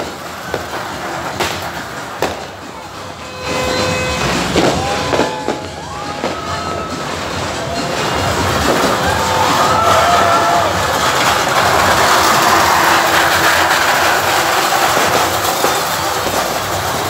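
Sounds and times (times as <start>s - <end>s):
firecrackers banging: 0.0s - 17.0s
whistling fireworks gliding in pitch: 0.0s - 17.0s.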